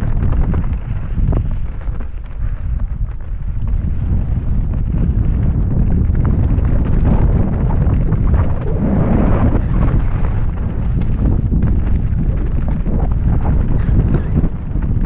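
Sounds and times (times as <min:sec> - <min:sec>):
tyres crunching over stones: 0:00.0 - 0:15.0
wind buffeting microphone: 0:00.0 - 0:15.0.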